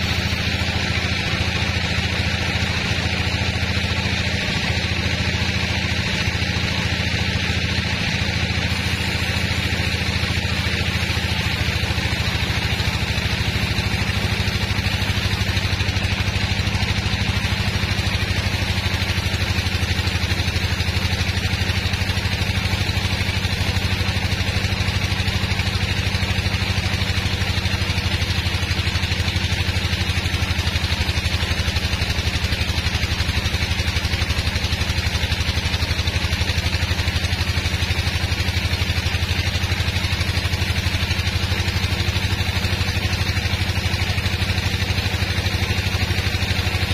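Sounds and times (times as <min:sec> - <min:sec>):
band sawmill sawing log: 0:00.0 - 0:46.9.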